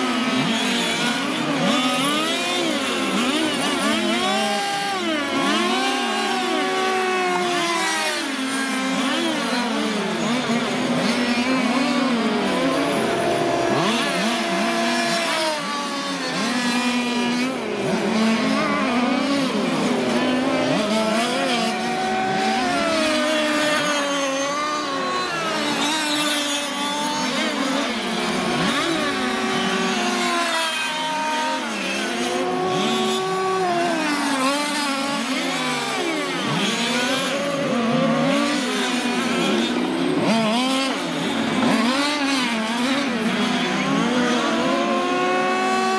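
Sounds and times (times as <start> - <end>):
small two-stroke engines racing: 0.0 - 45.9.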